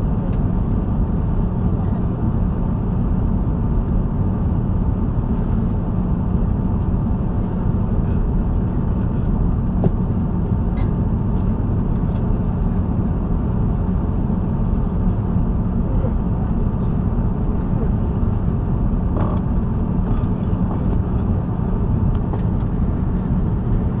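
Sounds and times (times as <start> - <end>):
airliner cabin roar: 0.0 - 24.0.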